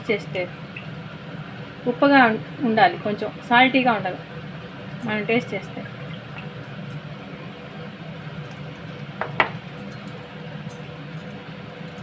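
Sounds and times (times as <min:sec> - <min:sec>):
gas stove burner hum: 0:00.0 - 0:12.0.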